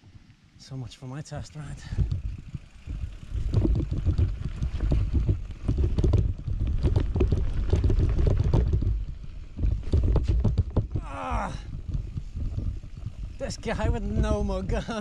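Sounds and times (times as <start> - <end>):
bike rattling over bumps: 1.3 - 15.0
tyres rumbling over ground: 1.3 - 15.0
wind buffeting microphone: 1.7 - 15.0.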